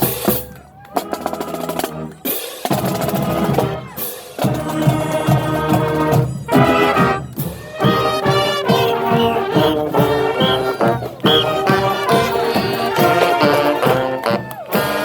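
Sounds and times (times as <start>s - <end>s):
bass and snare drums: 0.0s - 15.0s
brass chords: 0.0s - 15.0s.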